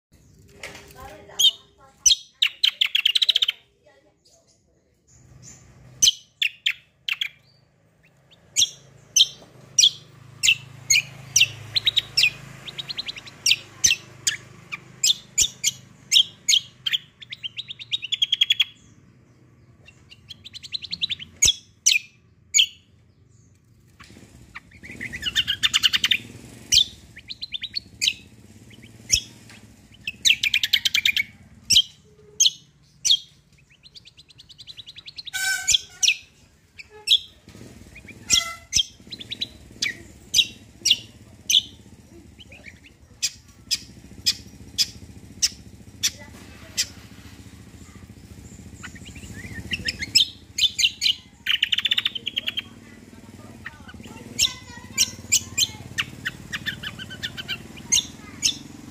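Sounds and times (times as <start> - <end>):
songbird singing: 0.1 - 58.9.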